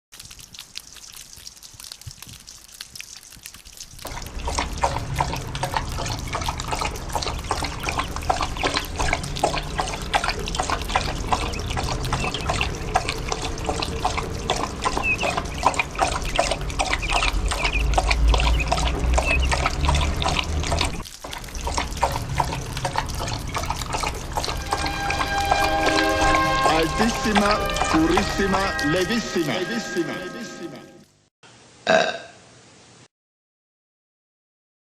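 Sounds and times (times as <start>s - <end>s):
dog lapping water: 0.1s - 29.5s.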